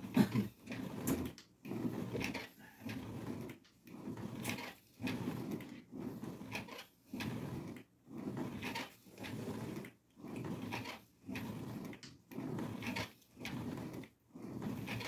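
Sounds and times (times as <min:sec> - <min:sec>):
ab roller wheel rolling on tiles: 0:00.0 - 0:15.0.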